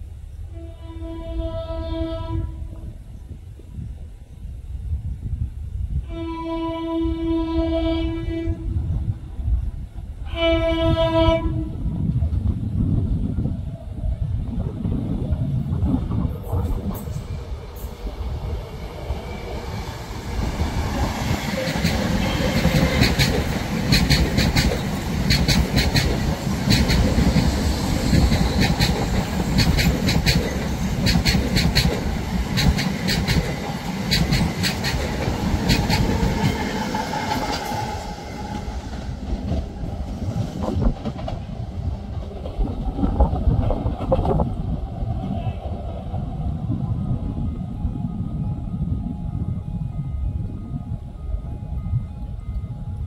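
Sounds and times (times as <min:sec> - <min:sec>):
train passing rumble: 0:00.0 - 0:53.0.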